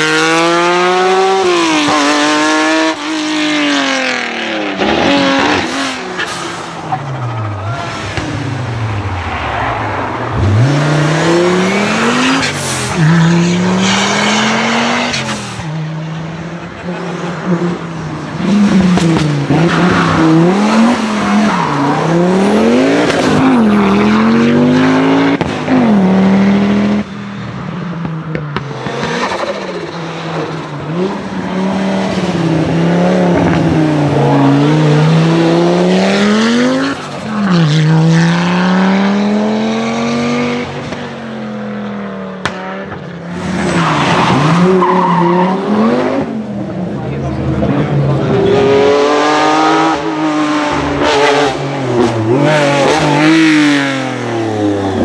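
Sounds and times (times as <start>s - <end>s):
rally car engines revving: 0.0s - 55.0s
tyres squealing and skidding: 4.6s - 46.3s, 47.2s - 55.0s.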